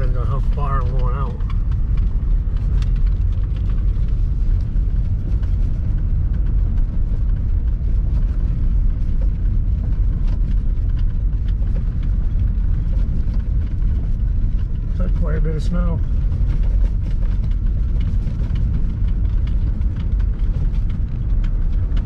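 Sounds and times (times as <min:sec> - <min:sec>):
vehicle rumbling over snow road: 0:00.0 - 0:22.0.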